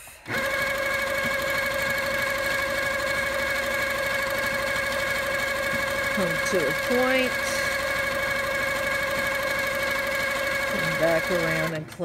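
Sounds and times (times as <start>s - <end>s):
quilting machine motor whine: 0.2s - 12.0s
sewing needle chatter: 0.3s - 11.9s.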